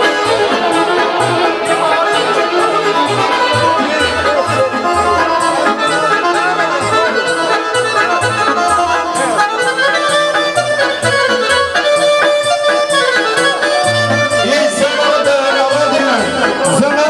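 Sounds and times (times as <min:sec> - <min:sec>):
pulsing bass line: 0:00.0 - 0:15.0
folk music led by accordion: 0:00.0 - 0:17.0.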